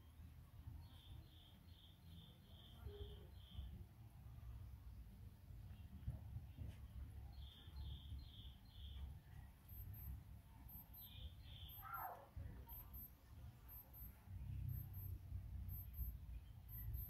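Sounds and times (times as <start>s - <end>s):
bird chirping: 0.0s - 3.8s, 5.7s - 17.0s.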